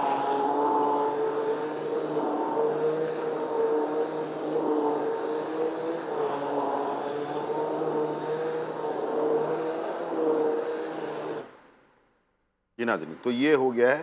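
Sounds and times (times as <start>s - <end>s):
electric hand blender running: 0.0s - 11.6s.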